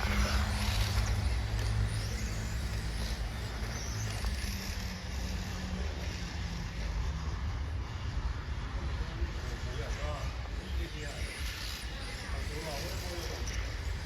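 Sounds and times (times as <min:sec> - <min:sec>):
rc car motor whine: 0:00.0 - 0:14.0.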